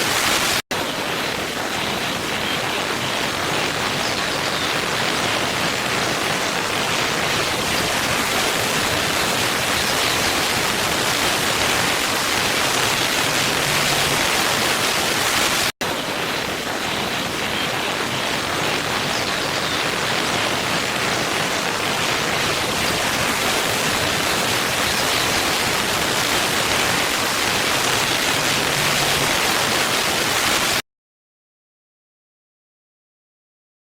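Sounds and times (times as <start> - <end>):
waterfall rushing: 0.0 - 30.8.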